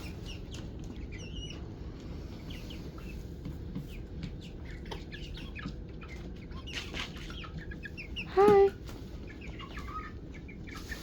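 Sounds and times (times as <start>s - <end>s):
chicks peeping: 0.0s - 11.0s
low background hum: 0.0s - 11.0s.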